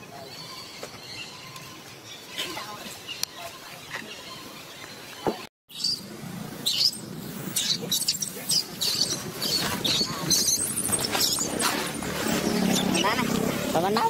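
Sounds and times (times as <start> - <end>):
faint high chirping calls: 0.1 - 11.6.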